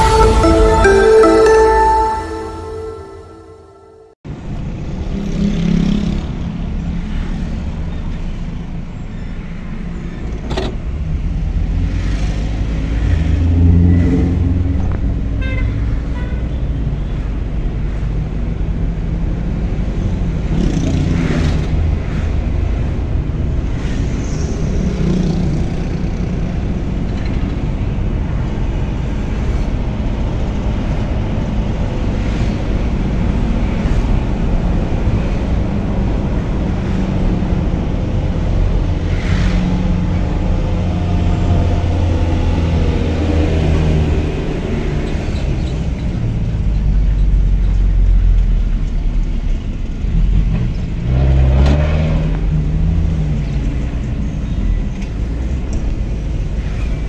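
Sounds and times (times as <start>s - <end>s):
car engine and tyre road noise: 4.2s - 57.0s.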